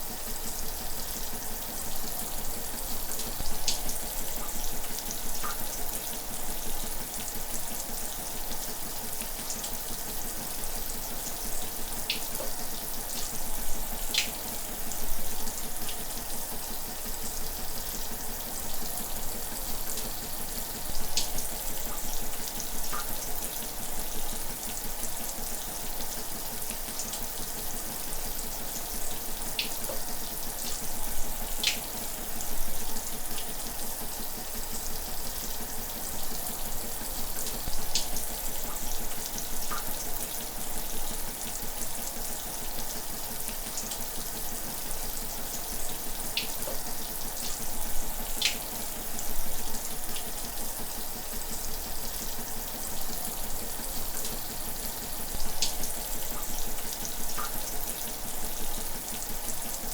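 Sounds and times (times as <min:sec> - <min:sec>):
shower running: 0:00.0 - 0:59.9.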